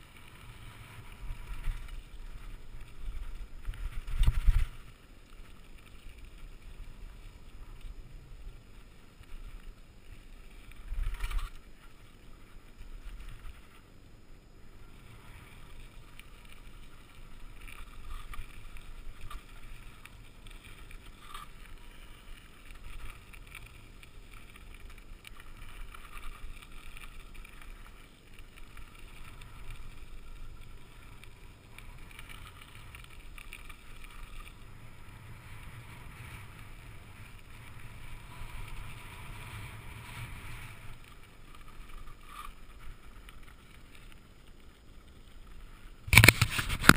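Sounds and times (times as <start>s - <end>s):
bike rattling: 0.0s - 14.2s, 14.8s - 46.9s
wind rumbling on microphone: 0.0s - 46.9s.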